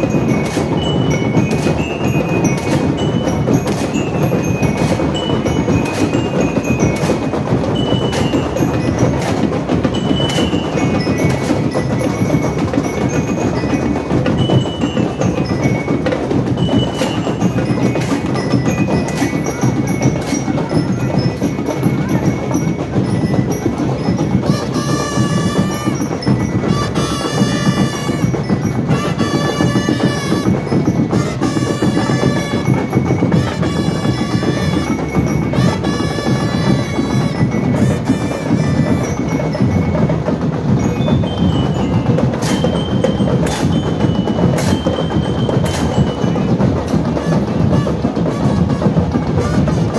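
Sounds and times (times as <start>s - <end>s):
glockenspiel melody: 0.0s - 49.9s
marching drum line: 0.0s - 49.9s.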